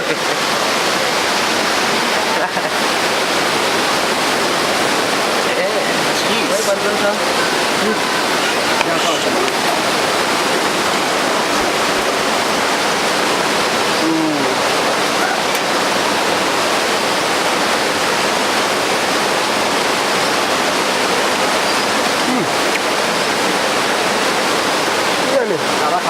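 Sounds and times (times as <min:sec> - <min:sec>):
rushing waterfall: 0:00.0 - 0:26.0.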